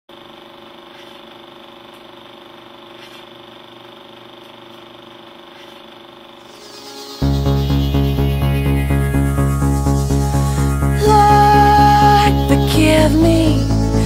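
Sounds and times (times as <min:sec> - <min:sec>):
steady hum with held tones: 0:00.1 - 0:14.0.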